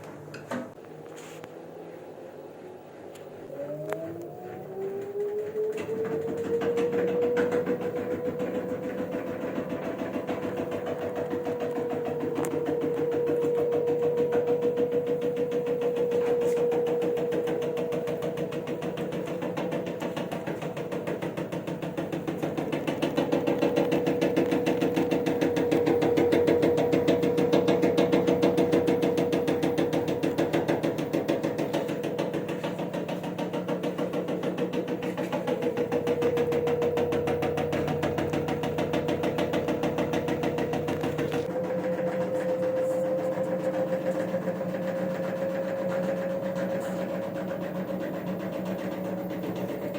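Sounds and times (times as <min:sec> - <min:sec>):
washing machine motor whine: 0:00.0 - 0:49.9
drum rattling and knocking: 0:05.0 - 0:49.9.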